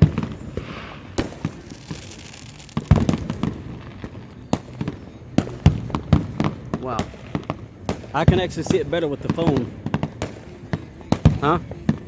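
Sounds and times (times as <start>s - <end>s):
fireworks booming and popping: 0.0s - 12.0s.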